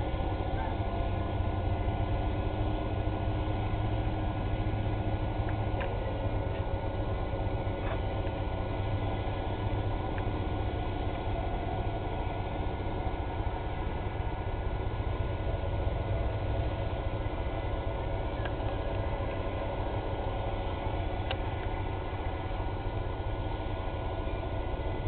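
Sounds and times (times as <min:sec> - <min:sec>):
boat diesel engine droning: 0:00.0 - 0:25.0.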